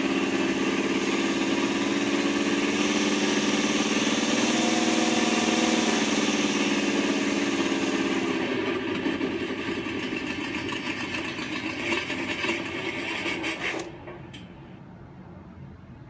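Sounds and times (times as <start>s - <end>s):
simulated car engine on speaker: 0.0s - 16.0s.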